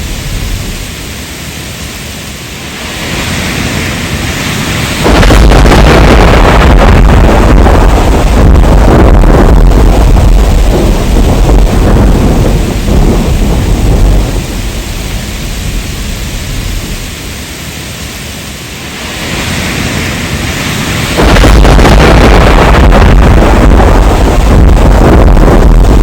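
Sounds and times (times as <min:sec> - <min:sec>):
heavy rain: 0:00.0 - 0:26.0
thunder rumbling: 0:00.0 - 0:26.0.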